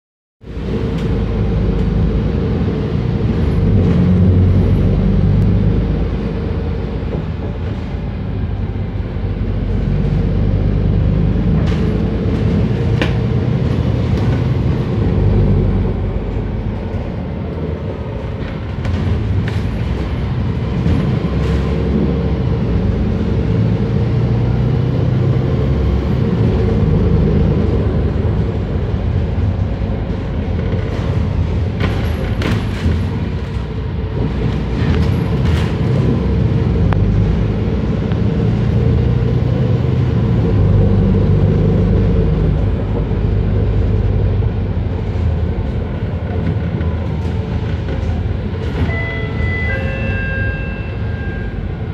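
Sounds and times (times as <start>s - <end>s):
bus engine and road rumble: 0.4s - 51.9s.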